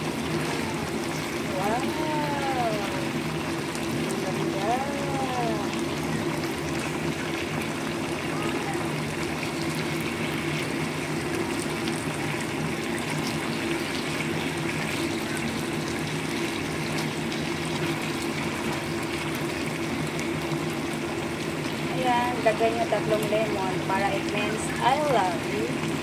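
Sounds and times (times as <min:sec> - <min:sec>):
constant low hum: 0:00.0 - 0:26.0
food sizzling in a pan: 0:00.0 - 0:26.0.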